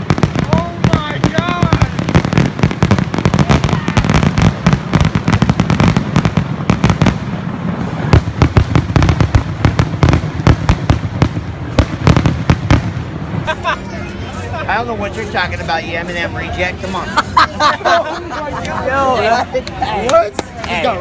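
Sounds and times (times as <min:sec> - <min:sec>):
fireworks bangs and crackles: 0:00.0 - 0:17.6.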